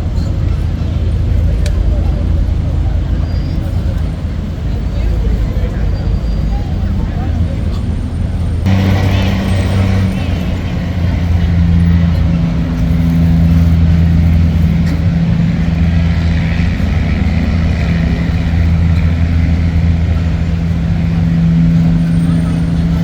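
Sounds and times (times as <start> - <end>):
large vehicle engine idling: 0.0 - 23.0.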